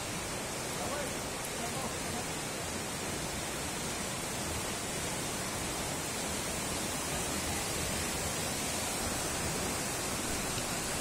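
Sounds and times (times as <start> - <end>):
stream tumbling over boulders: 0.0 - 11.0
waterfall rushing: 0.0 - 11.0.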